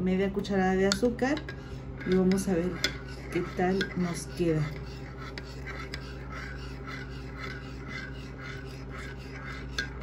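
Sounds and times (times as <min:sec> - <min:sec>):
spoon scraping inside a mug: 0:00.9 - 0:10.0.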